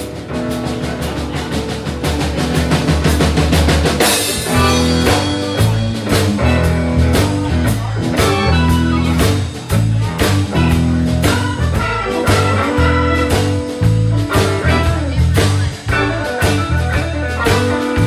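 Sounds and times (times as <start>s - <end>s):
drum kit beat: 0.0s - 18.0s
electric bass: 0.0s - 18.0s
electric guitar: 0.0s - 18.0s
keyboard: 0.0s - 18.0s.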